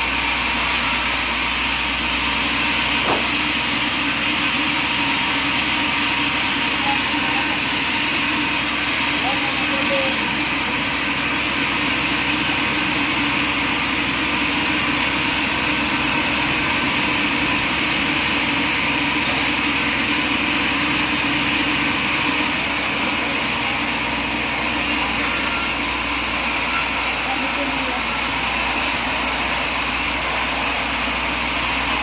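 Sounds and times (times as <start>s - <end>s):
sawmill running: 0.0s - 32.0s.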